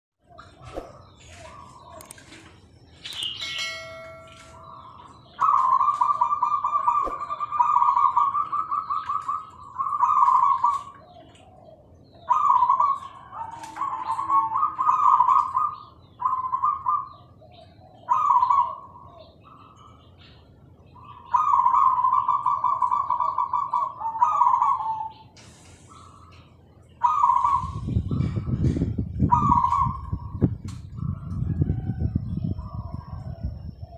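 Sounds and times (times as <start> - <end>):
doves cooing: 0.2 - 2.8, 4.5 - 33.9.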